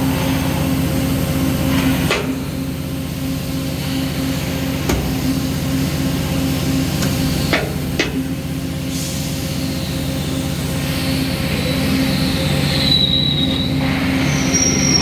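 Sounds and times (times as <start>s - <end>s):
machine hum with pulsing tone: 0.0s - 15.0s.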